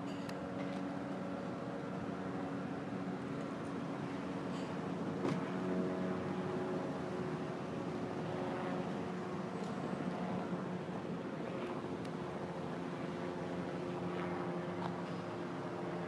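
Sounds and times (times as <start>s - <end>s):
helicopter running: 0.0s - 16.0s.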